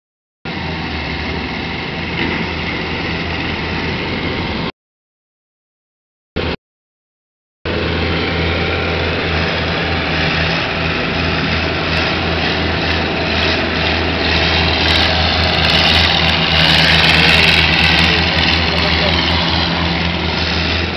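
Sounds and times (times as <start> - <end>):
combine harvester engine humming: 0.5 - 4.7, 7.7 - 20.9.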